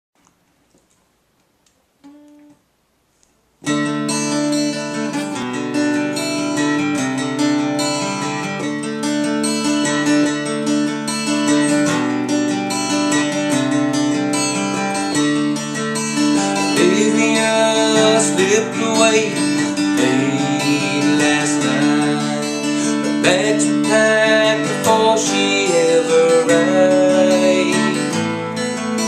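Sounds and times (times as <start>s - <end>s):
acoustic guitar playing: 2.0s - 2.7s, 3.6s - 29.0s.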